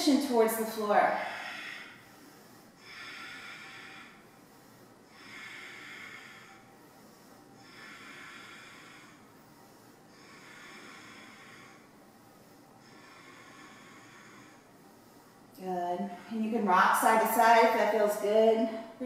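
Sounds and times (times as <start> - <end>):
woman breathing slowly: 0.2 - 19.0.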